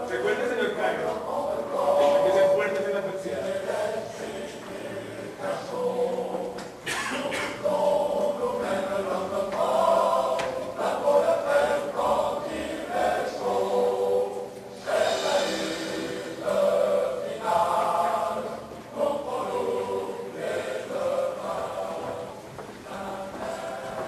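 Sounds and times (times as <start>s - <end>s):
choir singing long notes: 0.0s - 24.0s.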